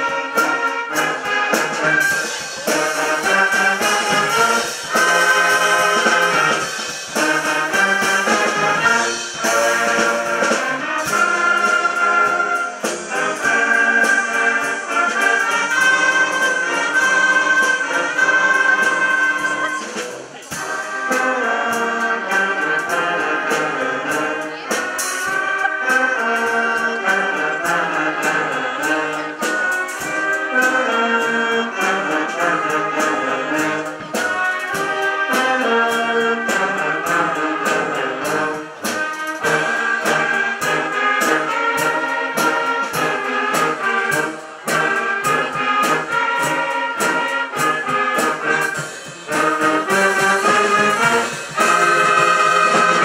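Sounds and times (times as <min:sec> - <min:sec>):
wind band playing: 0:00.0 - 0:53.0.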